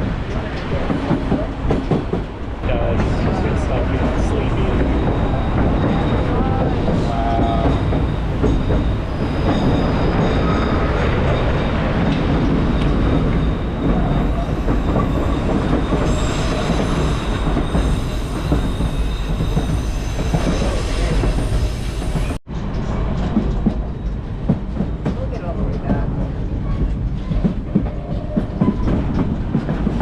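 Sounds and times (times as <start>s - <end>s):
train rumbling and rattling: 0.0s - 30.0s
train wheels squealing: 3.0s - 29.3s.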